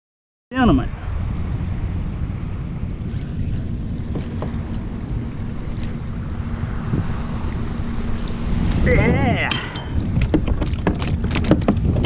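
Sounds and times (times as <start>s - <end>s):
wind rumbling on microphone: 0.5s - 12.0s
faint steady hum: 0.6s - 11.3s
water sounds around kayak: 1.0s - 12.0s.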